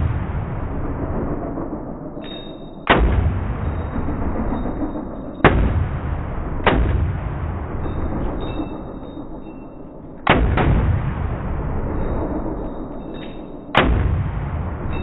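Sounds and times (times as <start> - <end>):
gunshots with low rumble: 0.0 - 15.0.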